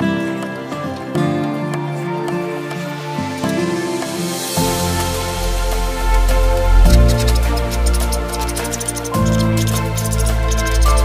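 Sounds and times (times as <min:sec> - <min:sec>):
background music sustained notes: 0:00.0 - 0:11.0.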